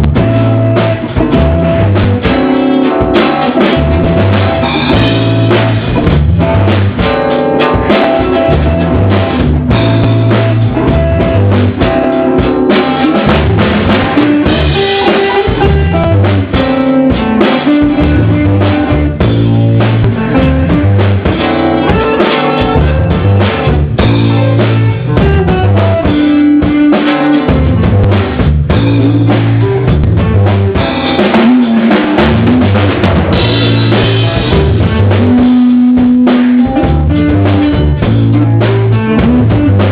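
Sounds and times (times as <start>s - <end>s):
drum kit beat: 0.0s - 39.9s
loud band music: 0.0s - 39.9s.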